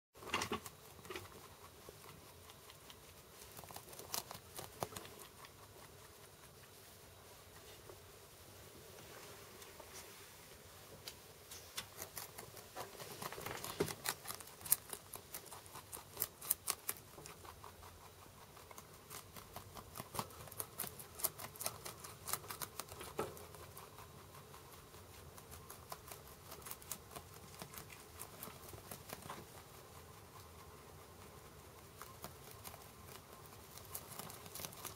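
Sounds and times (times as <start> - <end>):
rabbit chewing crunching: 0.2 - 34.9.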